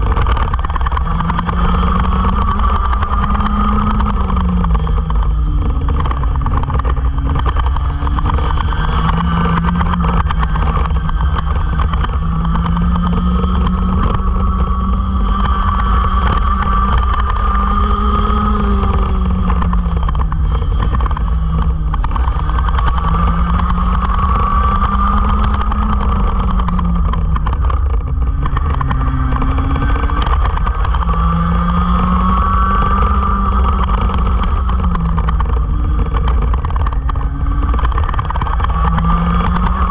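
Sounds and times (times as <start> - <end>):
racing kart engines: 0.0 - 39.9
wind rumble on microphone: 0.0 - 39.9.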